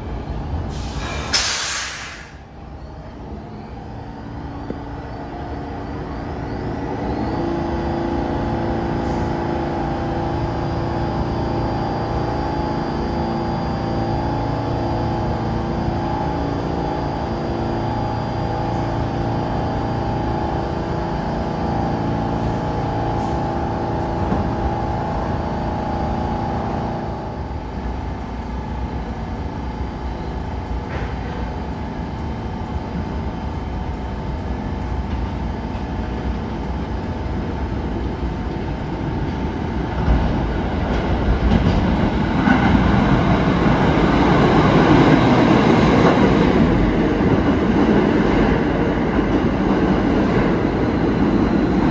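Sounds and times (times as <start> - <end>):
subway train approaching rumble: 0.0 - 51.9
train equipment humming: 0.0 - 51.9.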